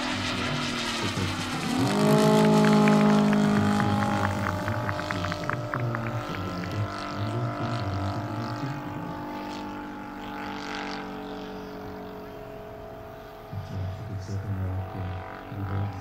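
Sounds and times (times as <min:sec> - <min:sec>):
model airplane engine drone: 0:00.0 - 0:16.0.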